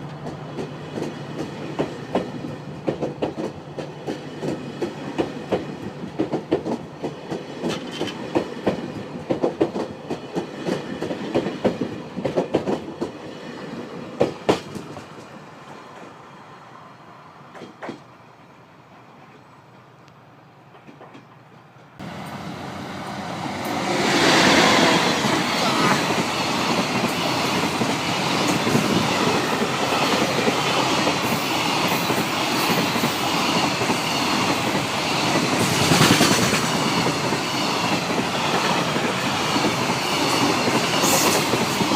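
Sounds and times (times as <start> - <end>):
train wheels clicking over rail joints: 0.0 - 16.2, 17.5 - 18.1, 20.6 - 22.0, 23.6 - 41.9
freight train wheels on rail: 0.0 - 41.9.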